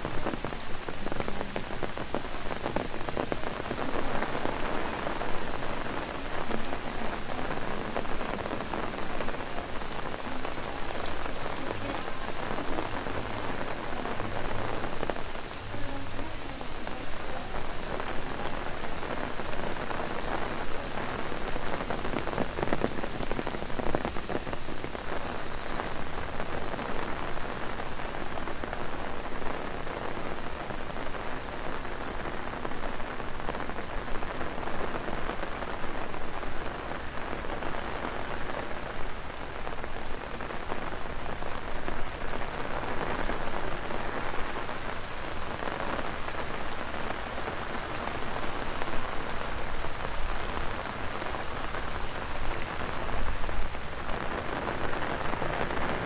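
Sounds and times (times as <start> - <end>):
cicadas chorus: 0.0 - 56.0
heavy rain on umbrella: 0.0 - 56.0.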